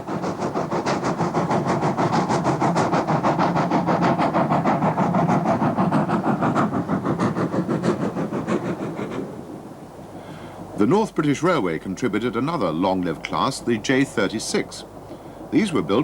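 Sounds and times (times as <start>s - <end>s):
steam locomotive exhaust beats: 0.0s - 16.0s.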